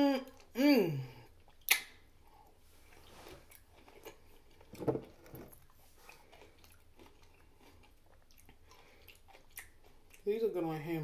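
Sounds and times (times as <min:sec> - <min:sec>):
person chewing pickle: 0:00.2 - 0:10.3.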